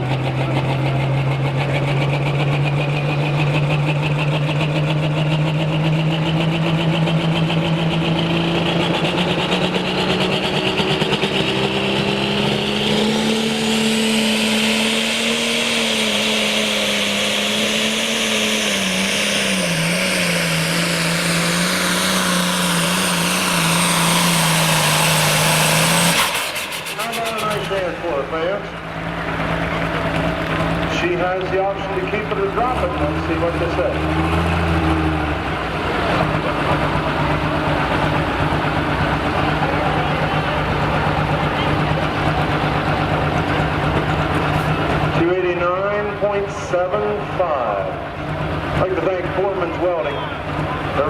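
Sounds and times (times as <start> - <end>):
diesel engine at full throttle: 0.0 - 51.0
high turbo whine: 0.0 - 51.0.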